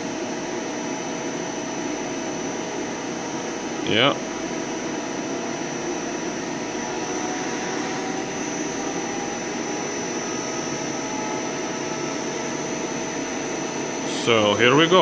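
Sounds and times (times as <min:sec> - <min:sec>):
high-pitched whine: 0:00.0 - 0:15.0
lathe spindle whirring: 0:00.0 - 0:15.0.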